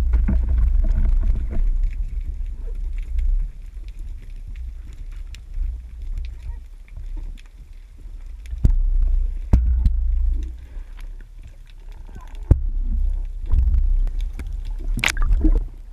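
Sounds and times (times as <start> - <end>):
faint clicks: 0.1 - 15.9.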